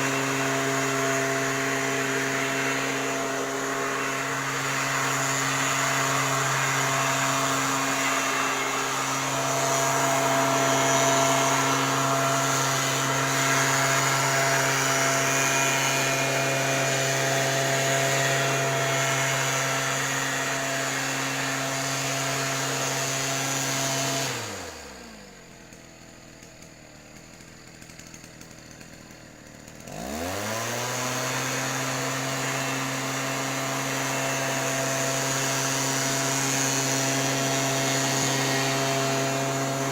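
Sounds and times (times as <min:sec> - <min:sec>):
sprayer engine running: 0:00.0 - 0:39.9.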